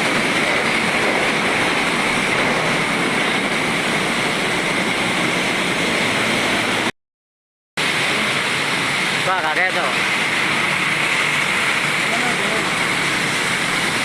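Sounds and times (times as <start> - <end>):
traffic on wet road: 0.0 - 6.9, 7.8 - 14.0.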